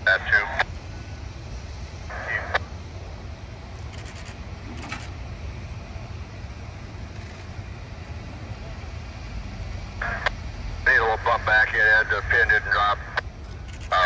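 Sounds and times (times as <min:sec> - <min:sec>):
idling locomotives rumbling: 0:00.0 - 0:14.0.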